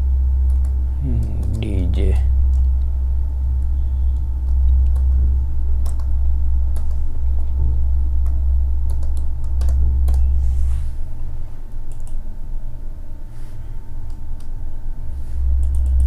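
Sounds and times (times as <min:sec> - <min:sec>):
loud steady low hum: 0:00.0 - 0:16.0.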